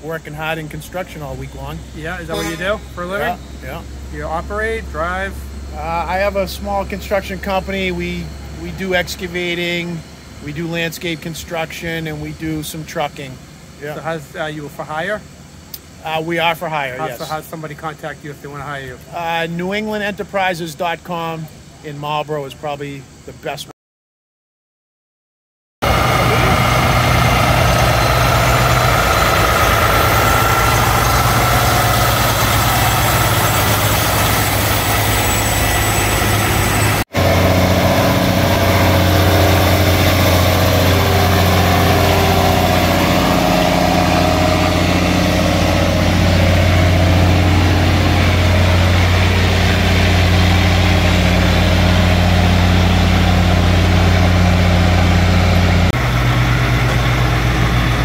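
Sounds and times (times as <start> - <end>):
diesel trucks low engine drone: 0.0 - 23.4, 25.8 - 58.0.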